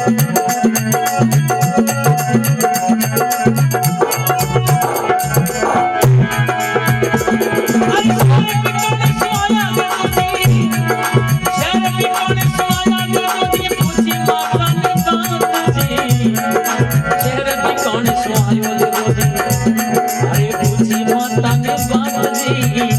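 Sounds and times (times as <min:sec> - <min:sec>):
drum and rattle rhythm: 0:00.0 - 0:22.9
melodic instrument line: 0:00.9 - 0:22.9.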